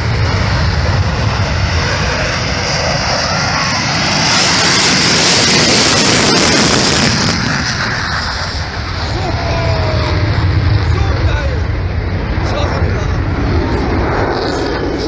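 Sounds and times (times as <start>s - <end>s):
military aircraft flying past: 0.0s - 15.0s.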